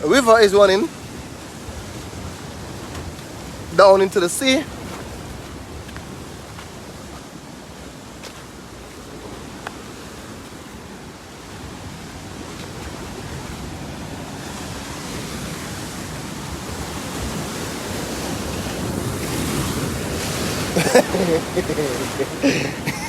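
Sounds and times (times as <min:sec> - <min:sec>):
sea surf washing in: 0:00.0 - 0:23.0
wind on microphone: 0:00.0 - 0:23.0.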